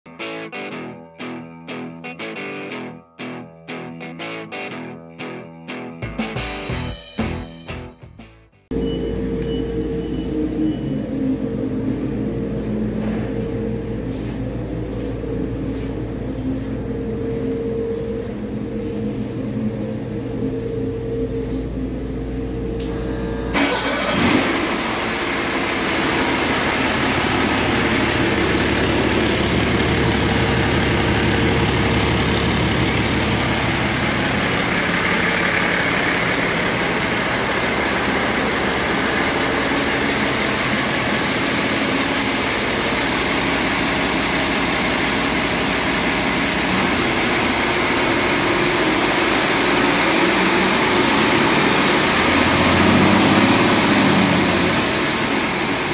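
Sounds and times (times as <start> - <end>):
diesel engine starting and idling: 8.7 - 55.9.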